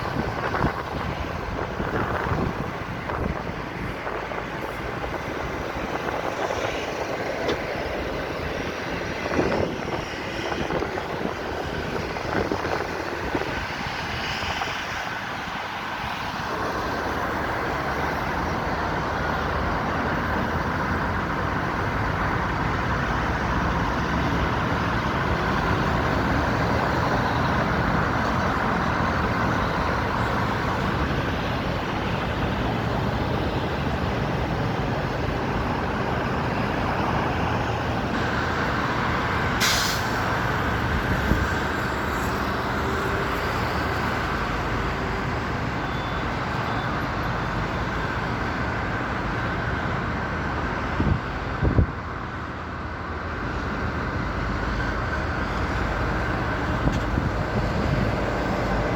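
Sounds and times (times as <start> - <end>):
vehicle rumble and hiss: 0.0 - 58.9.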